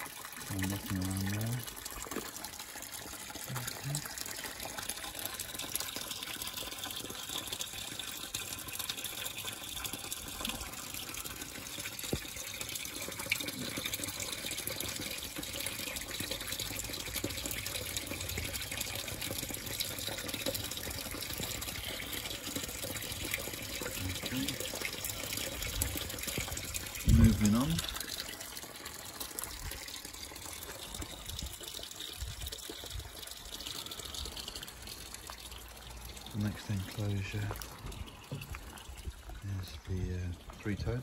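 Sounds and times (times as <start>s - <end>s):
running water in a pond: 0.0s - 41.0s.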